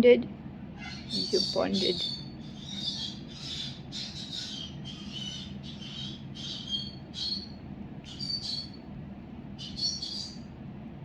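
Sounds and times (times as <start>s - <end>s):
steady low hum: 0.0s - 11.0s
pet bird squawking: 0.8s - 8.8s, 9.6s - 10.5s.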